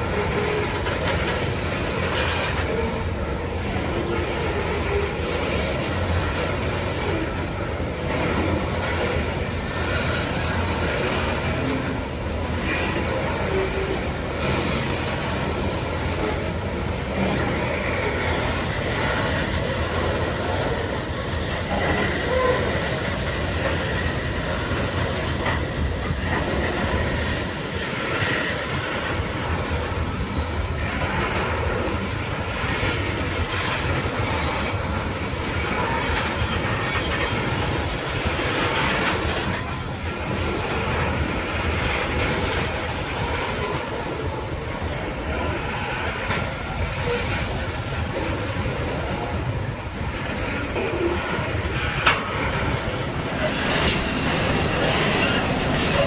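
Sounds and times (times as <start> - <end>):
train cars rolling past: 0.0 - 56.0
wheels clicking over rail joints: 0.0 - 56.0.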